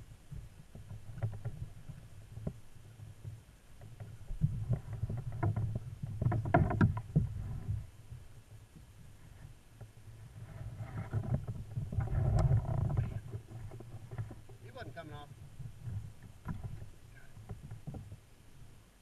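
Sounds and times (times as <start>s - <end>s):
knocks and rattles on plastic kayak: 0.0s - 19.0s.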